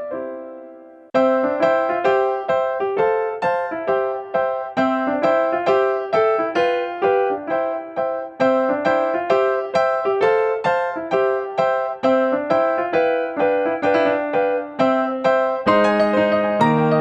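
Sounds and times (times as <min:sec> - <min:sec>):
electric piano playing: 0:00.0 - 0:17.0.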